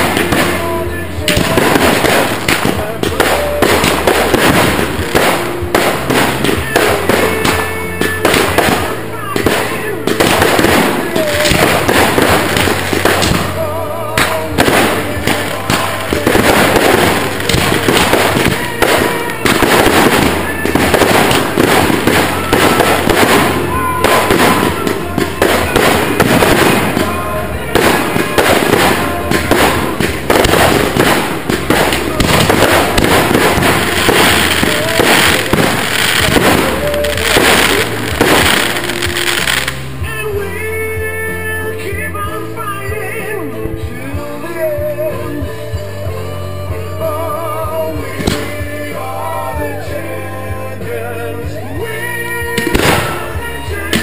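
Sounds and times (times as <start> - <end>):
fireworks bangs: 0.0 - 51.2, 51.8 - 54.0
music: 0.0 - 54.0.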